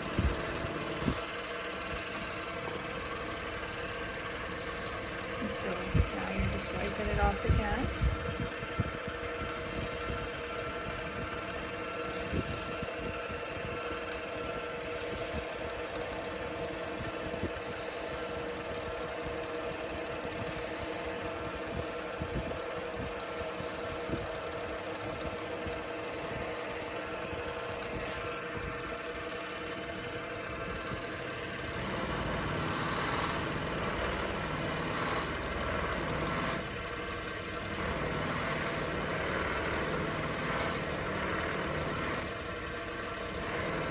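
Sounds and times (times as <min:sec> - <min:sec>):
wood lathe humming and whining: 0:00.0 - 0:43.9.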